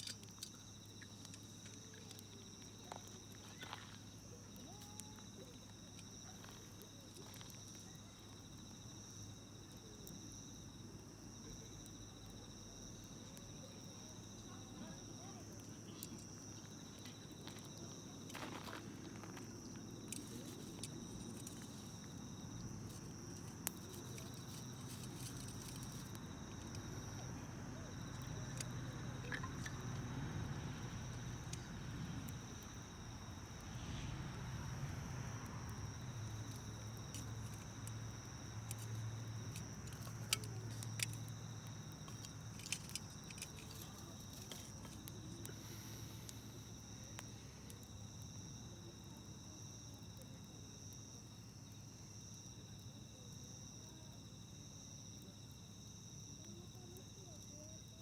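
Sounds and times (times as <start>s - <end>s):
campfire crackling and popping: 0.0s - 58.0s
crickets chirping: 0.0s - 58.0s
low rumble of flame: 0.0s - 58.0s.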